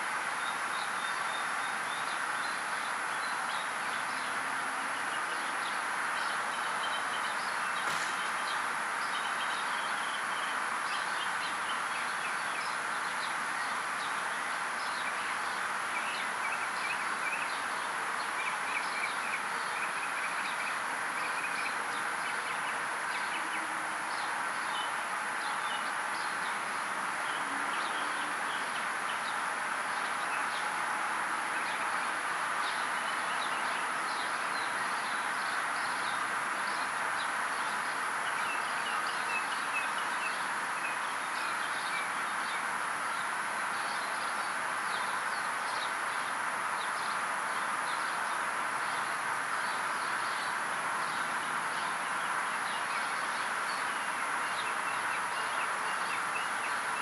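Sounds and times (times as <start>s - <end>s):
steady background hiss: 0.0s - 57.0s
small birds chirping: 0.2s - 57.0s.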